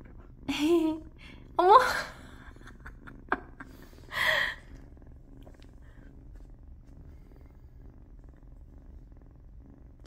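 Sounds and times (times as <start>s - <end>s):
kitten purring: 0.0s - 10.0s.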